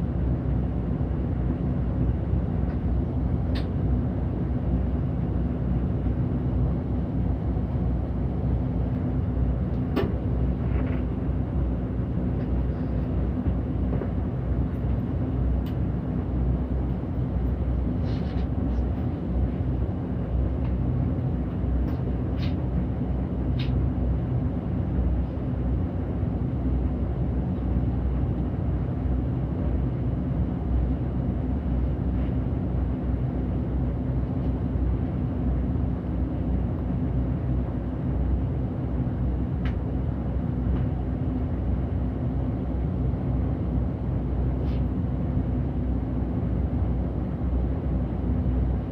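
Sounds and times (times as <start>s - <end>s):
bus engine and road rumble: 0.0s - 48.9s
constant hum: 0.0s - 48.9s.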